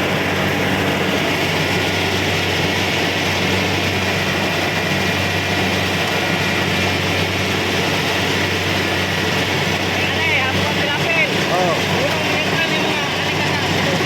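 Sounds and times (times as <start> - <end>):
combine harvester engine drone: 0.0 - 14.0
machinery noise: 0.0 - 14.0.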